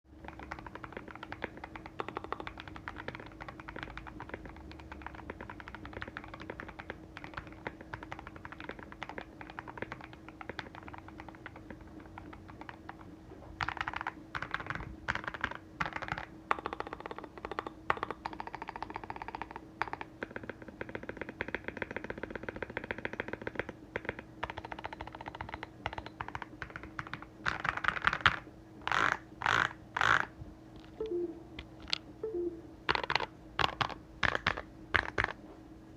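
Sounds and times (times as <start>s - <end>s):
faint steady hum: 0.1s - 35.9s
mechanical keyboard typing: 0.2s - 30.3s, 31.0s - 35.4s.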